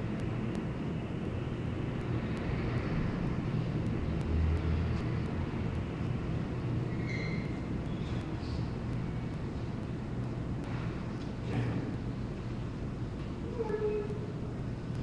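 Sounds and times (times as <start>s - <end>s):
distant city traffic rumble: 0.0s - 15.0s.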